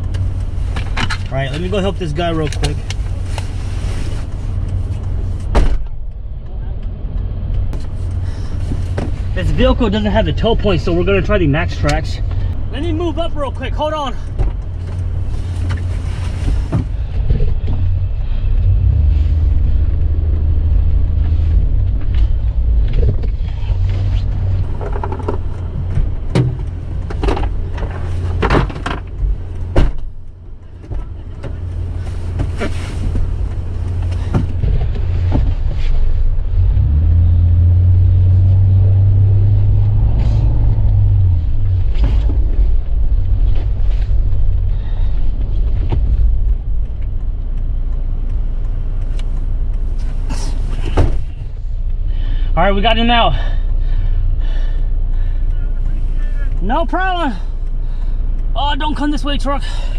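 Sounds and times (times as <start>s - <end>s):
steady low hum: 0.0s - 58.6s
vehicle engine rumbling: 0.0s - 59.9s.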